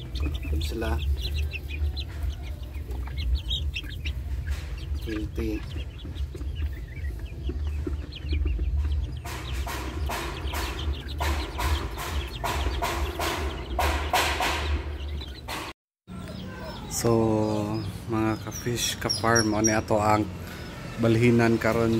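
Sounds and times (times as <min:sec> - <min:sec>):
chicks clucking and peeping: 0:00.0 - 0:21.9.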